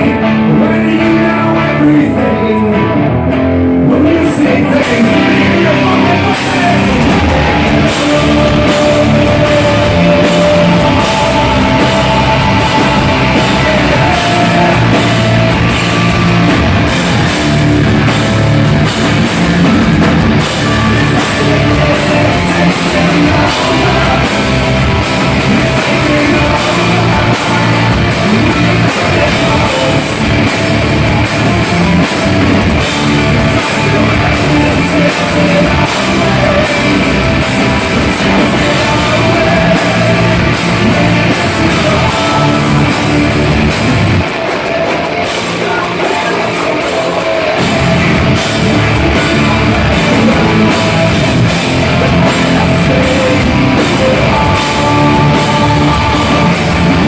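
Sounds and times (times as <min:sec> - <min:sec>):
heavy rock music: 0:00.0 - 0:57.0
drum kit beat: 0:04.1 - 0:57.0.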